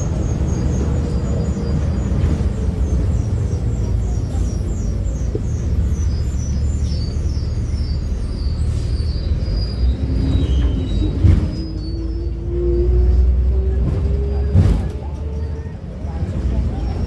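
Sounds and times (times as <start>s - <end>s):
bus engine low rumble: 0.0s - 17.0s
whining noise from bus: 0.0s - 17.0s.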